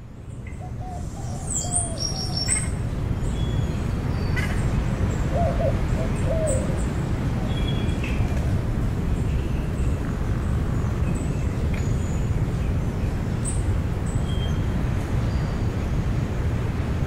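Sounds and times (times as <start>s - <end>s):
birds calling and chirping: 0.3s - 15.8s.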